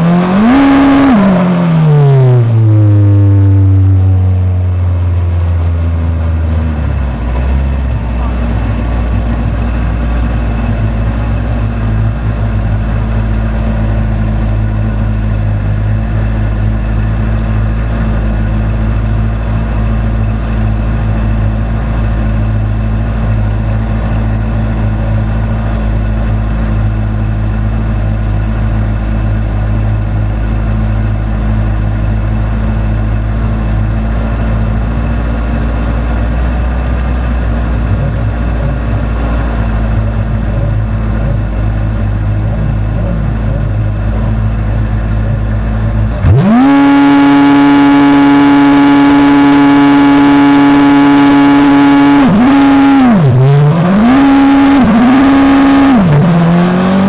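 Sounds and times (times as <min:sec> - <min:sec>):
race car engine idling: 0:02.4 - 0:52.6.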